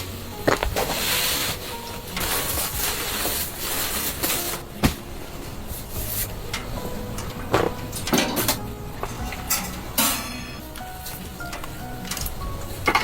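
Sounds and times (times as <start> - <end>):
steady rushing background: 0.0 - 13.0
knocks and clatters of handling: 1.8 - 13.0.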